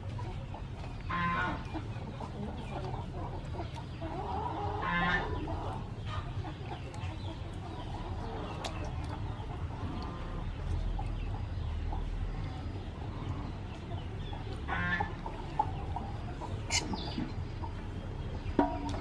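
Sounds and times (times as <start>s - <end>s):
chicken drawn-out calls: 0.0s - 11.0s, 12.0s - 19.0s
chickens clucking: 0.0s - 19.0s.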